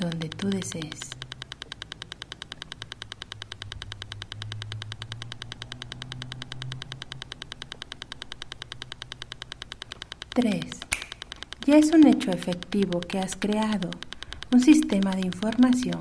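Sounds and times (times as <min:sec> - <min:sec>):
low steady hum: 0:00.0 - 0:16.0
rapid clicking pulses: 0:00.0 - 0:16.0.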